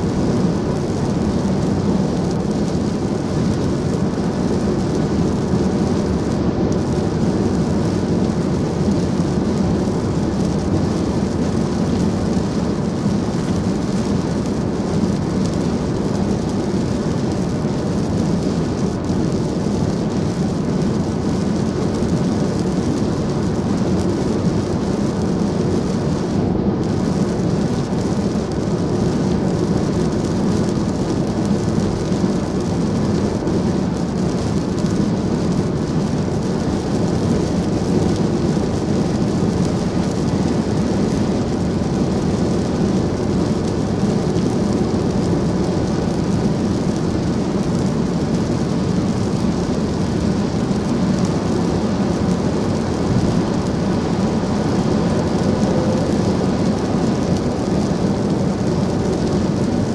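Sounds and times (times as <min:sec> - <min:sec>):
road and tyre noise on wet pavement: 0:00.0 - 0:59.9.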